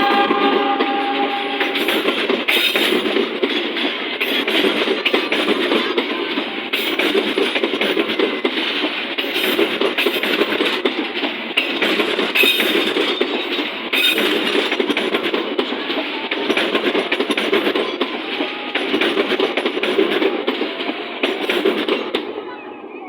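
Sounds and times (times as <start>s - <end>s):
train wheels rumbling on track: 0.0s - 22.6s.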